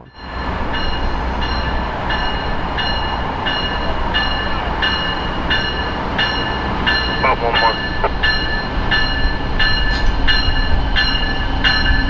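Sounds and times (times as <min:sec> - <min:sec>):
locomotive bell ringing: 0:00.0 - 0:12.0
locomotive engine rumbling: 0:00.0 - 0:12.0.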